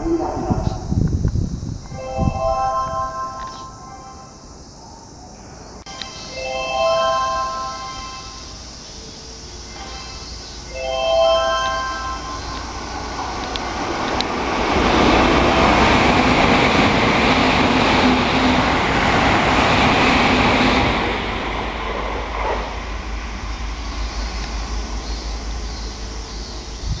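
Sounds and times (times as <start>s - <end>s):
electric train rumbling past: 0.0s - 27.0s.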